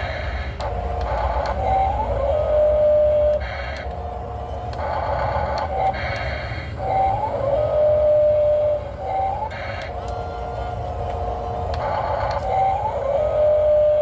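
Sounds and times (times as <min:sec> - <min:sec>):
model excavator motors whining: 0:00.0 - 0:14.0.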